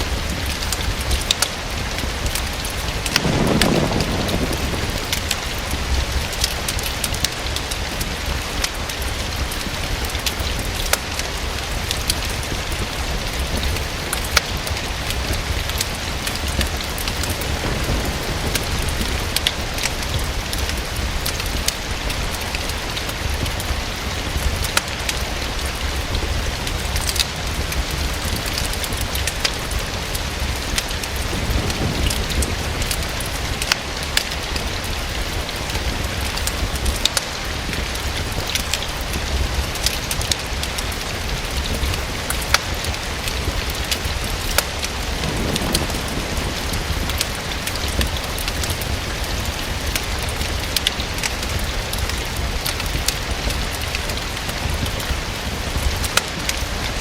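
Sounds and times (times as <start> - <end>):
sharp ticks and crackles: 0.0 - 57.0
steady rain falling: 0.0 - 57.0.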